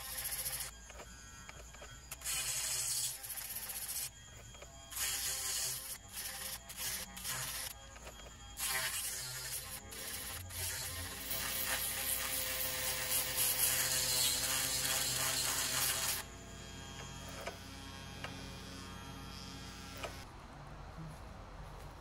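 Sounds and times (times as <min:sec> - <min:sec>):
rotary tool grinding chain: 0:00.0 - 0:19.1
rotary tool motor whine: 0:00.0 - 0:20.3.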